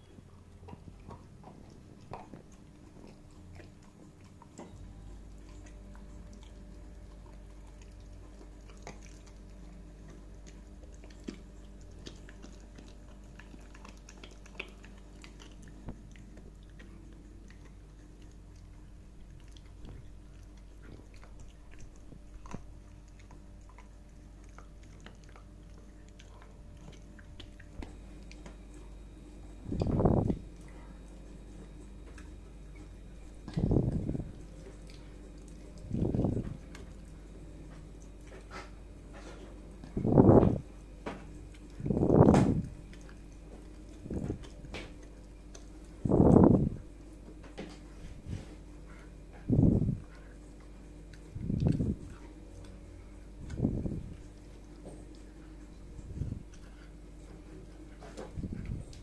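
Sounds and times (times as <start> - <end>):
puppy chewing a stick: 0.0 - 59.0.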